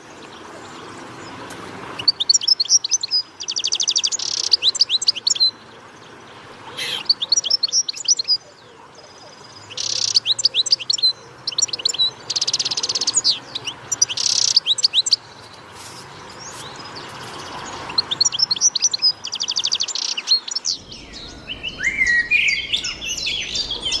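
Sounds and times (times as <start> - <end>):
songbird trilling and chirping: 0.0 - 24.0
low chattering bird call: 2.0 - 24.0.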